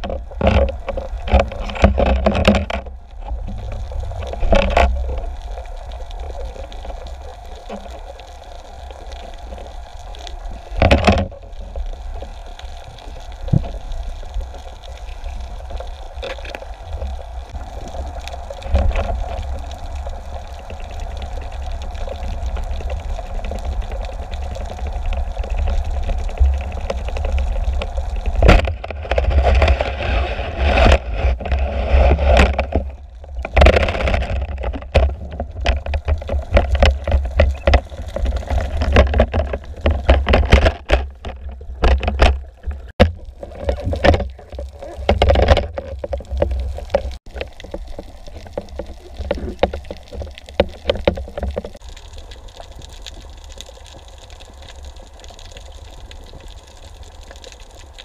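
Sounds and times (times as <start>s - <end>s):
water churning underwater: 0.0s - 58.0s.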